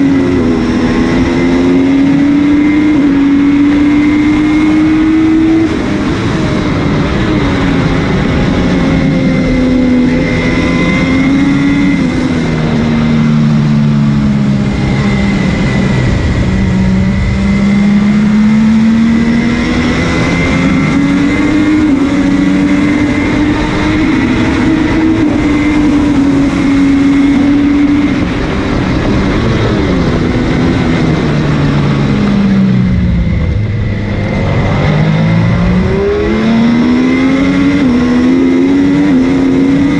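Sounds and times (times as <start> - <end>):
motorcycle engine racing: 0.0 - 39.9.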